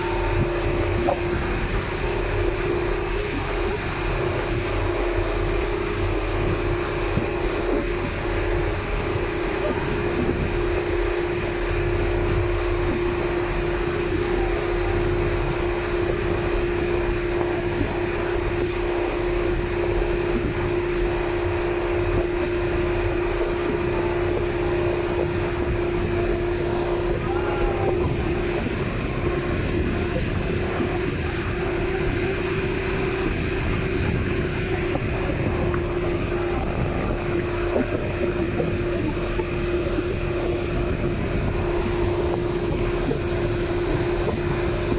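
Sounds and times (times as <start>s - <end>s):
boat engine droning: 0.0s - 44.9s
rush of wind and water: 0.0s - 44.9s.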